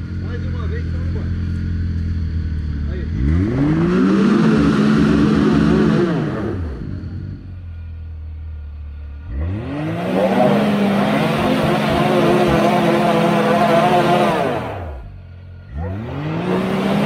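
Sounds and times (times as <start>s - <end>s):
engine revving: 0.0s - 7.7s, 8.9s - 17.0s.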